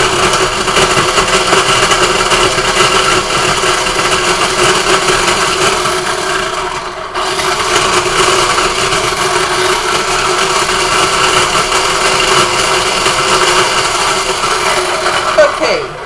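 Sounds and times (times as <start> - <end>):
food processor motor whirring: 0.0 - 16.0.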